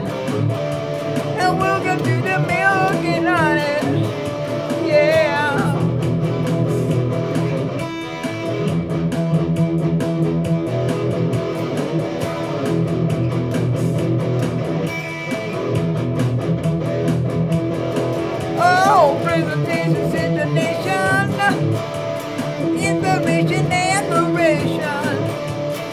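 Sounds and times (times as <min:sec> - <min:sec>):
drum machine rhythm: 0:00.0 - 0:25.9
electric guitar strumming chords: 0:00.0 - 0:25.9.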